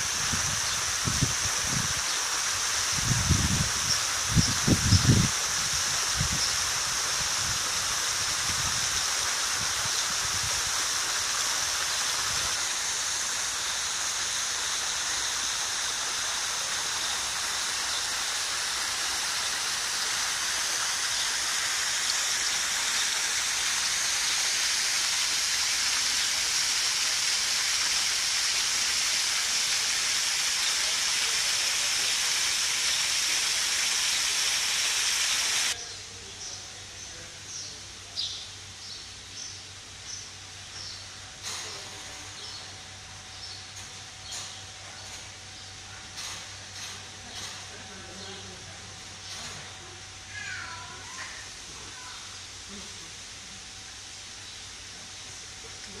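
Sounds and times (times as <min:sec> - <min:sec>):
waterfall rushing into pool: 0:00.0 - 0:35.9, 0:46.0 - 0:56.0.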